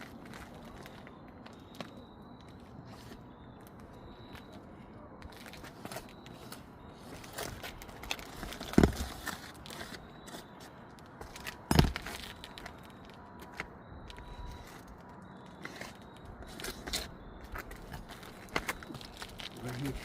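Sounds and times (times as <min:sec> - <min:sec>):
footsteps on a shingle roof: 0:00.0 - 0:04.6, 0:05.2 - 0:20.0.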